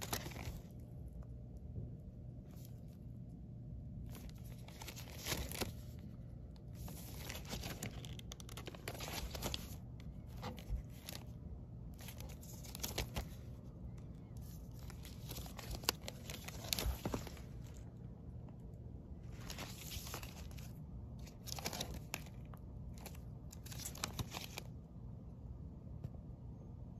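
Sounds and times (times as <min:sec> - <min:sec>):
plastic sleeves crinkling: 0:00.0 - 0:01.3, 0:02.3 - 0:24.8.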